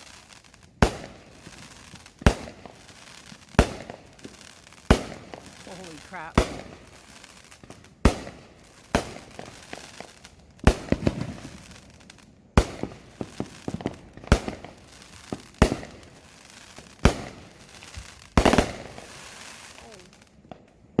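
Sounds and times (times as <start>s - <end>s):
crackling firework pops: 0.0s - 21.0s
firework booms: 0.0s - 21.0s.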